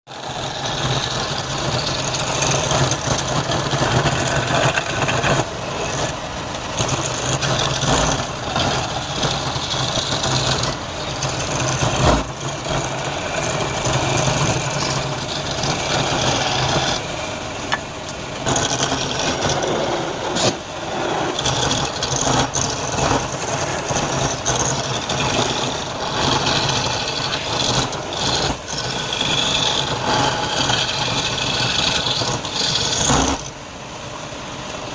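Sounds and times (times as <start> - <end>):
tool rasping on spinning wood: 0.1 - 33.7
wood lathe motor hum: 0.2 - 34.1.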